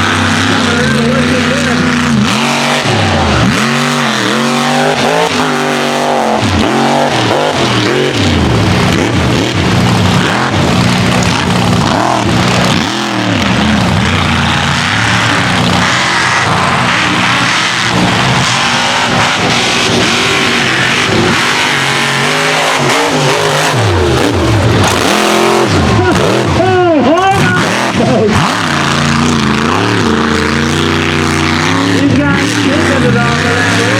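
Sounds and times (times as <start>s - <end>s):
truck engine revving: 0.0s - 33.9s.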